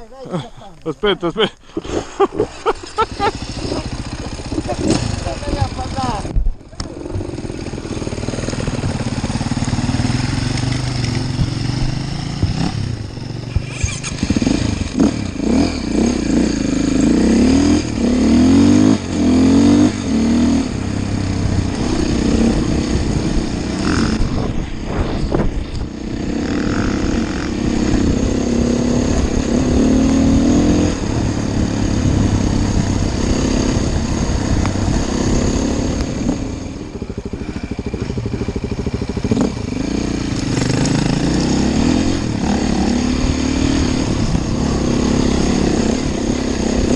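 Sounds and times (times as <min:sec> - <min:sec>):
dirt bike engine revving: 0:01.8 - 0:46.9.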